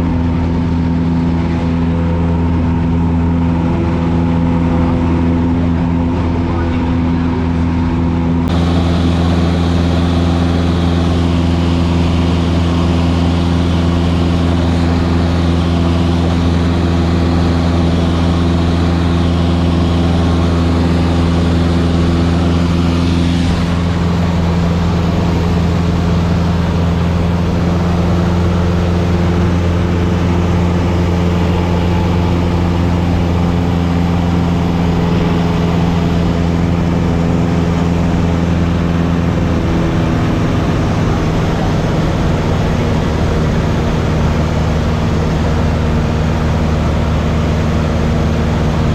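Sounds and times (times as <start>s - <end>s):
airplane engine and propeller droning: 0.0s - 48.9s.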